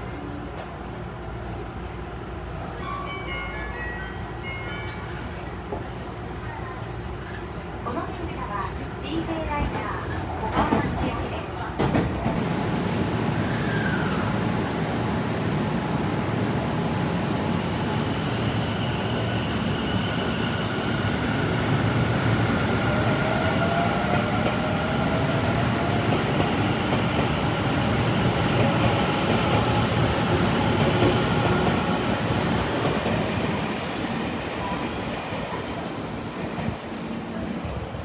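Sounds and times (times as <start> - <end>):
train wheels rumbling on rail: 5.0 - 38.0.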